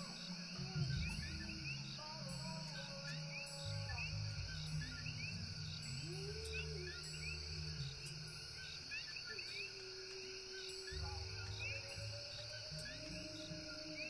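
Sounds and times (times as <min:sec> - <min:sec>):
frogs chirping: 0:00.0 - 0:14.0
insects buzzing: 0:00.0 - 0:14.0.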